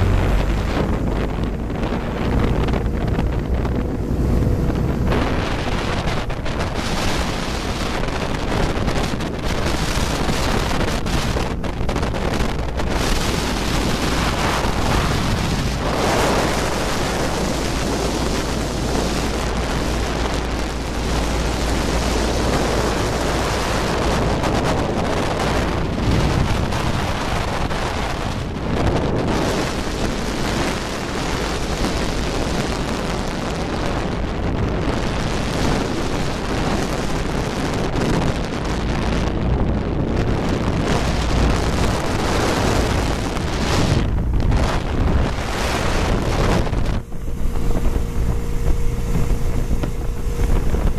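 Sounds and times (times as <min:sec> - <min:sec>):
boat engine: 0:00.0 - 0:50.9
water rushing: 0:00.0 - 0:50.9
wind buffeting microphone: 0:00.0 - 0:50.9.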